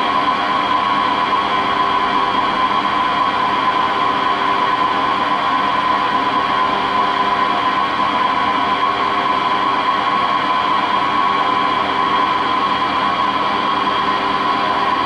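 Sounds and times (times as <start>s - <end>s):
lathe spindle whine and hum: 0.0s - 15.0s.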